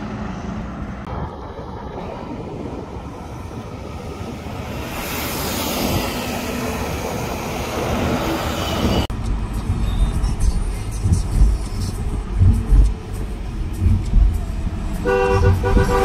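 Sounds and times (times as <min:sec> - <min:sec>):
steady road noise: 0:00.0 - 0:16.0
truck passing: 0:00.0 - 0:16.0.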